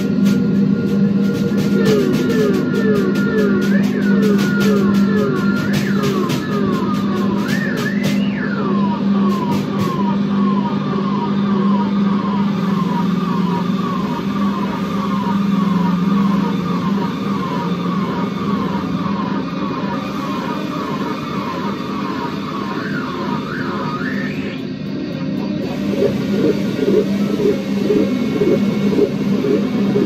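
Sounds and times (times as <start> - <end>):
falling siren-like tone: 0.0 - 30.0
steady low hum: 0.0 - 30.0.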